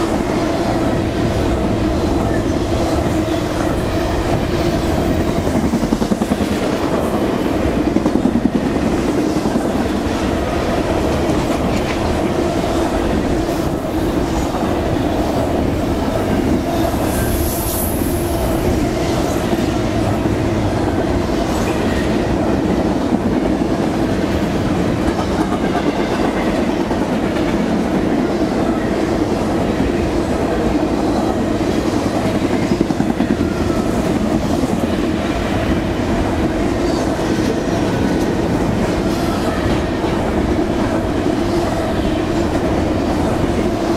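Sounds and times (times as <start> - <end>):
steel wheels clattering on rails: 0.0 - 43.9.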